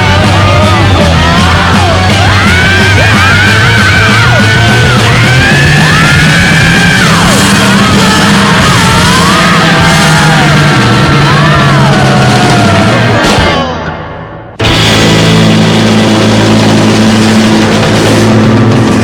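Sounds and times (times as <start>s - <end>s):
loud rock music: 0.0s - 19.0s
strained yelled vocal: 0.0s - 19.0s.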